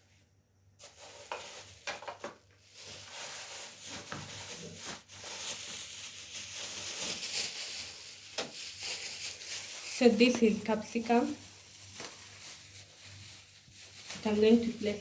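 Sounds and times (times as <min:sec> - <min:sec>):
plastic bags rustling: 0:00.8 - 0:15.0.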